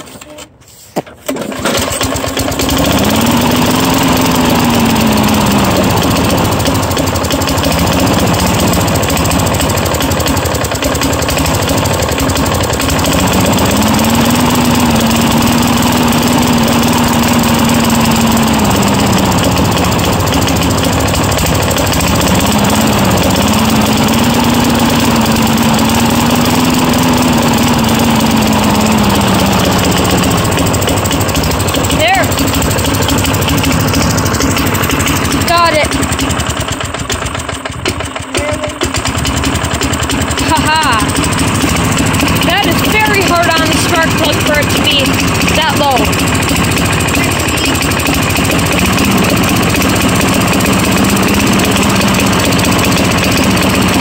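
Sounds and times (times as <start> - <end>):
lawn mower engine surging: 0.0 - 54.0.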